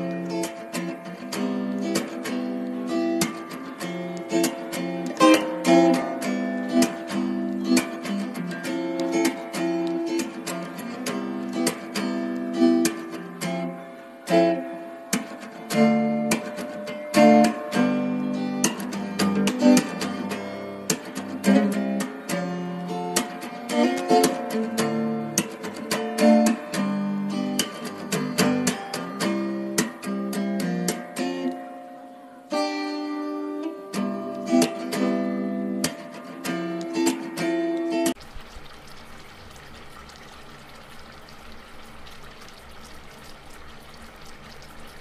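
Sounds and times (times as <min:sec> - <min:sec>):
plucked and strummed guitar: 0:00.0 - 0:40.6.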